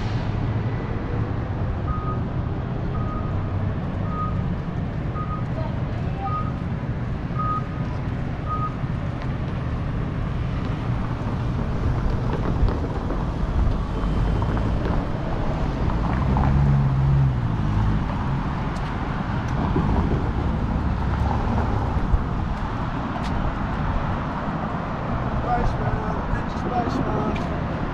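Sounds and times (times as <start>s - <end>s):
low rumble of traffic: 0.0s - 27.9s.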